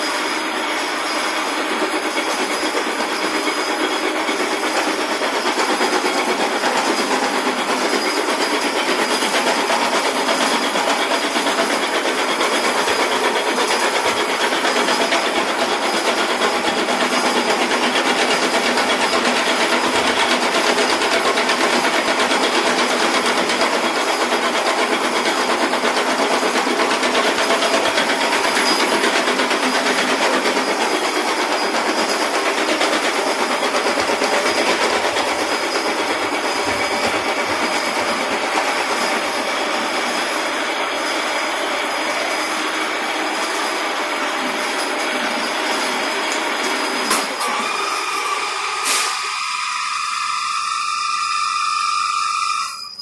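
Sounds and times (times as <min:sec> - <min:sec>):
milling machine cutting metal: 0:00.0 - 0:53.0.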